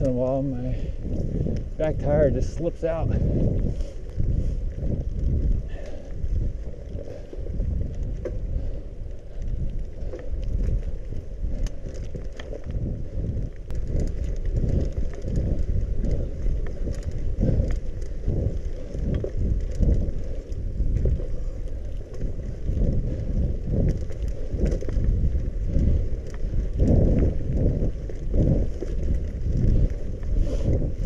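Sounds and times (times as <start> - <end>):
bicycle tyres rolling on mud: 0.0 - 31.0
bike clicks and rattles: 0.0 - 31.0
wind buffeting microphone: 0.0 - 31.0.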